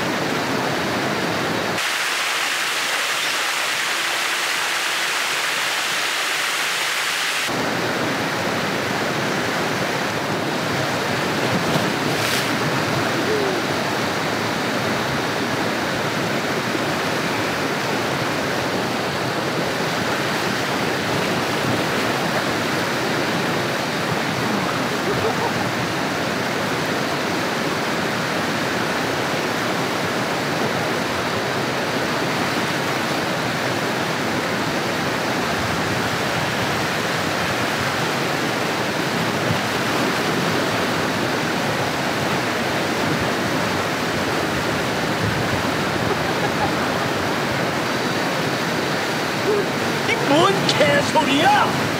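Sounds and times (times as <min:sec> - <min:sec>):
waterfall rushing over rocks: 0:00.0 - 0:51.9.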